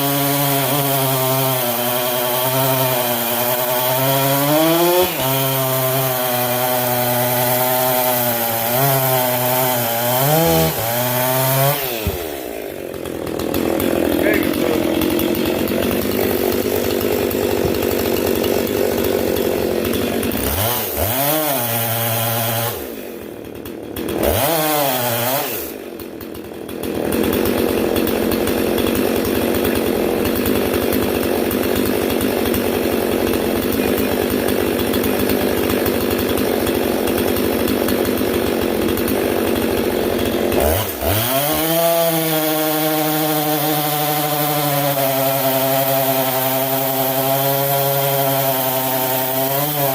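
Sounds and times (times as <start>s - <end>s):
chainsaw cutting logs: 0.0s - 49.9s.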